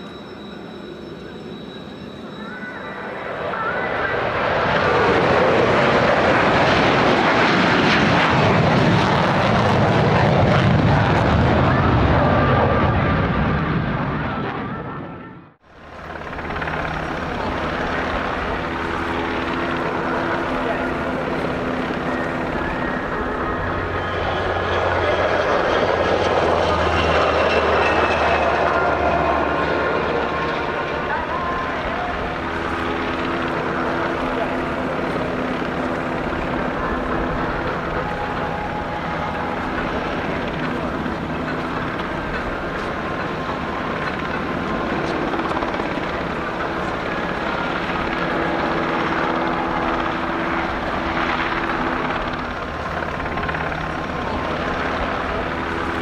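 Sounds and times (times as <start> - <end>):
helicopter engine whine: 0.0 - 56.0
helicopter rotor drone: 0.0 - 56.0
jet aircraft flying past: 0.0 - 56.0.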